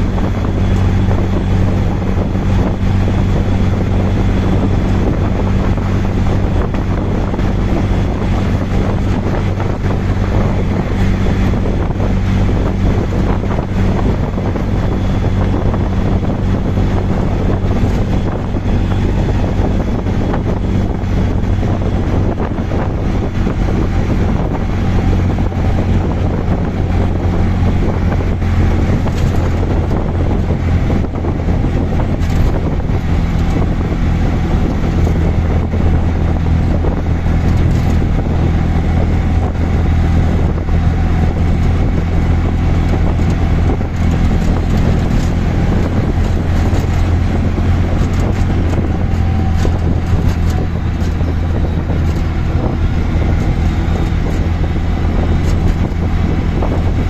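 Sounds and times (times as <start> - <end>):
auto rickshaw engine running: 0.0 - 57.0
road noise: 0.0 - 57.0.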